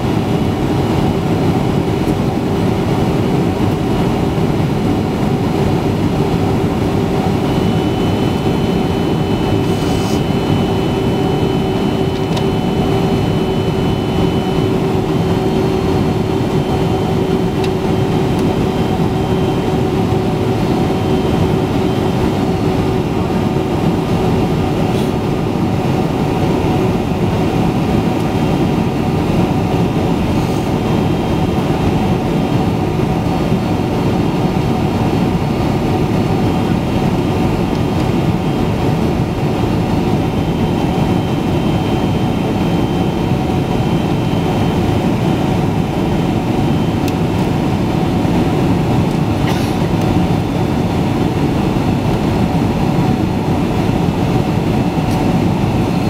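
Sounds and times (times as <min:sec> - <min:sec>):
airliner cabin engine and airflow noise: 0:00.0 - 0:56.0
steady droning hum: 0:00.0 - 0:56.0.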